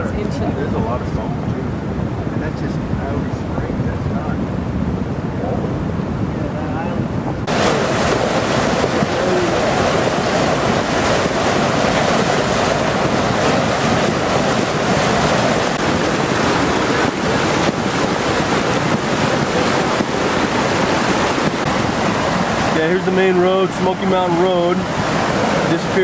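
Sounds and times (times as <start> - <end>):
flood water rushing: 0.0 - 26.0.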